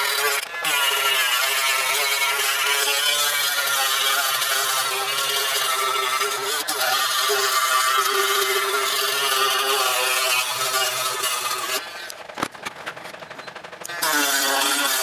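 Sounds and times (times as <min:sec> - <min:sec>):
drill motor whine: 0:00.0 - 0:12.2, 0:13.4 - 0:15.0
mini drill grinding metal: 0:00.0 - 0:12.2, 0:13.8 - 0:15.0.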